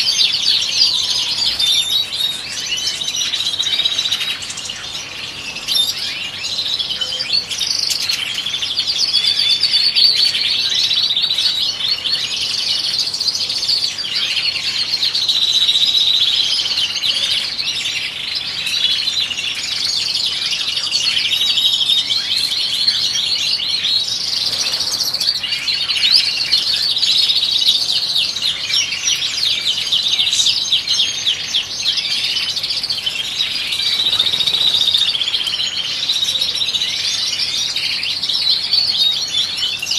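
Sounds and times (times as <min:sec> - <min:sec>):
finches twittering song: 0:00.0 - 0:39.9.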